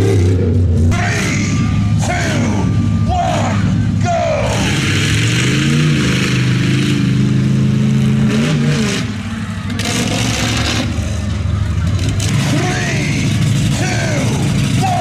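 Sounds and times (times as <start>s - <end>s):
large vehicle engine revving: 0.0s - 15.0s.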